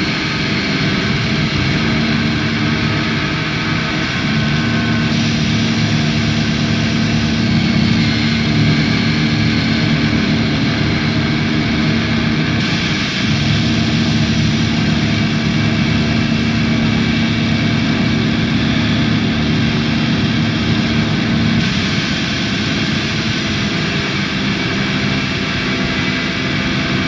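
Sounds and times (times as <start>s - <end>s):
low hum: 0.0s - 27.0s
noise music hiss and rumble: 0.0s - 27.0s.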